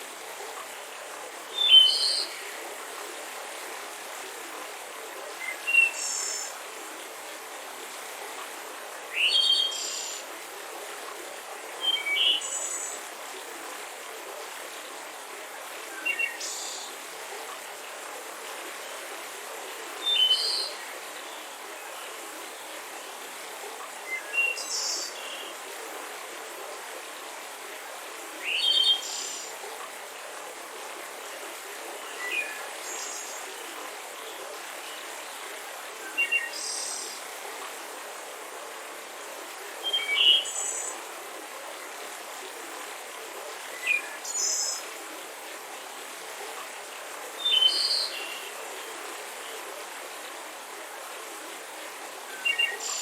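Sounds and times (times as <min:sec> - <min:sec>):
river flowing: 0:00.0 - 0:53.0.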